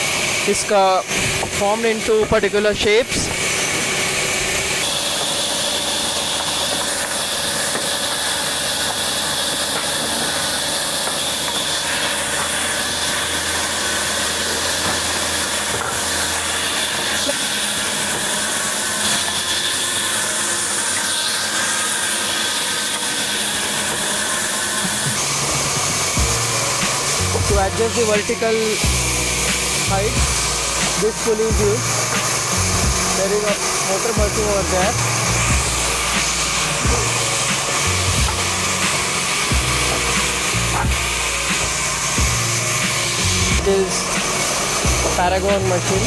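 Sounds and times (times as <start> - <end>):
band saw cutting wood: 0.0 - 46.0
motor hum: 0.0 - 46.0.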